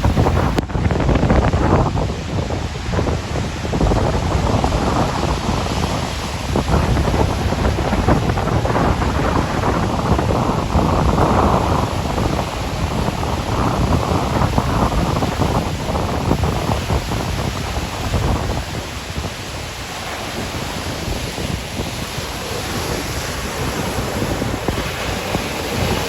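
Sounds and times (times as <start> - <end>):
rough sea waves: 0.0 - 26.0
wind buffeting microphone: 0.0 - 26.0.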